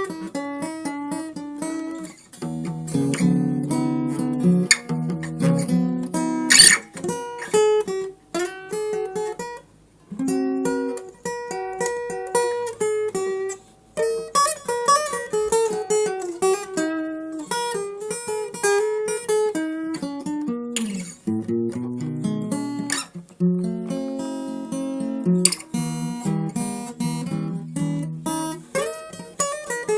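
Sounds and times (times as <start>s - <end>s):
acoustic guitar solo: 0.0s - 29.9s.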